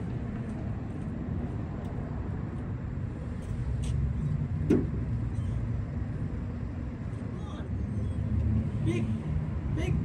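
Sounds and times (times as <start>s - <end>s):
road traffic rumble: 0.0s - 10.0s
tyres on road: 0.0s - 10.0s.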